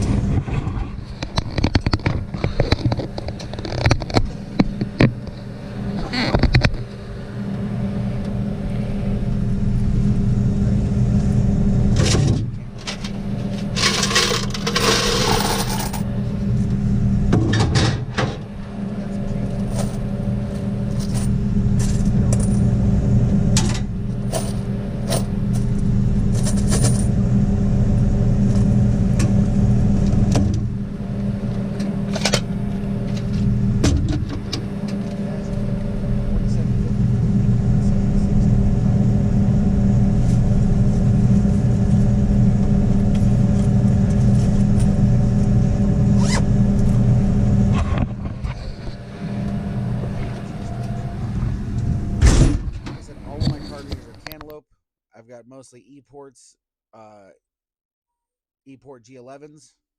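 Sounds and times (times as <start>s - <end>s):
low motor hum: 0.0s - 54.6s.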